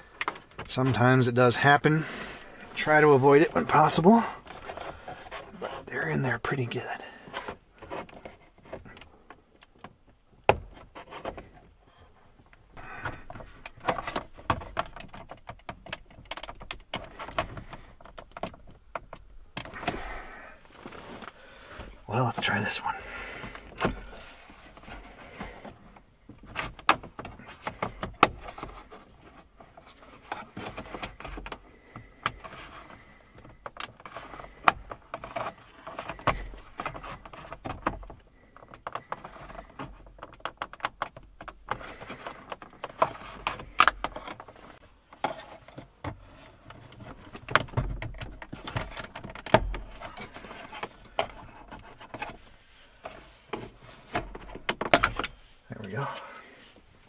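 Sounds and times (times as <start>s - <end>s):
plastic scraping and rubbing: 0.1s - 57.0s.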